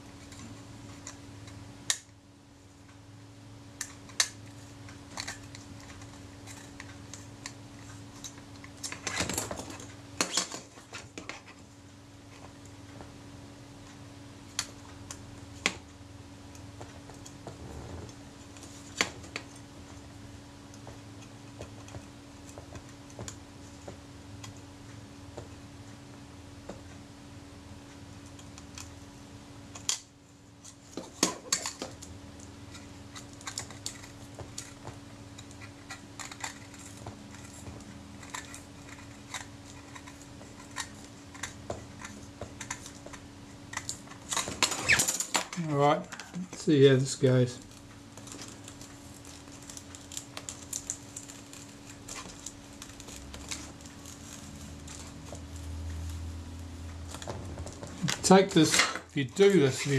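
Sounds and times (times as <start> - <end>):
faint hum: 0.0 - 59.9.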